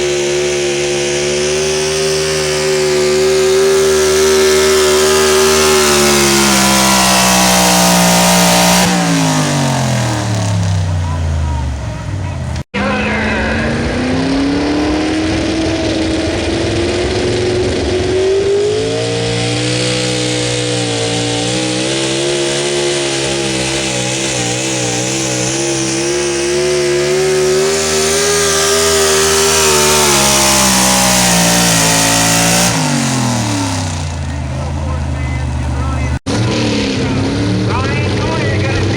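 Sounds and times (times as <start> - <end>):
truck engine at full throttle: 0.0 - 38.9.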